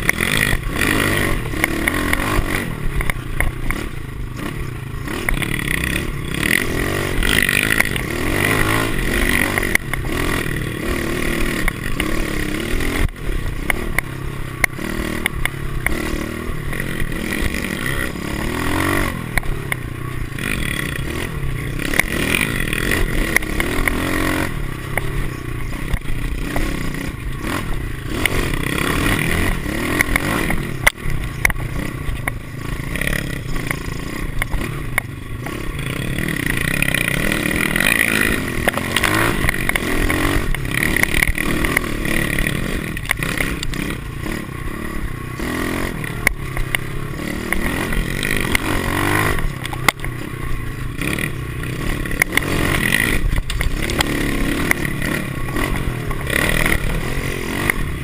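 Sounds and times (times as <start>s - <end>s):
bike rattles and knocks: 0.0s - 58.0s
small motorcycle engine revving: 0.0s - 58.0s.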